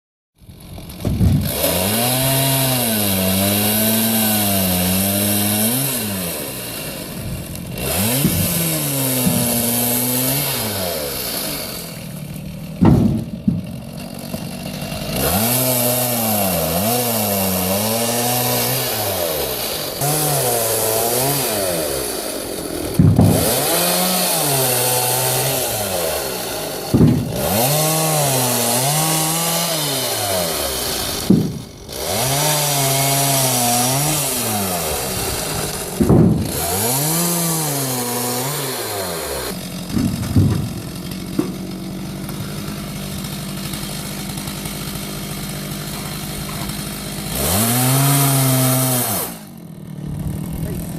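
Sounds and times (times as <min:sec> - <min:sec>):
chainsaw cutting logs: 0:00.4 - 0:50.9.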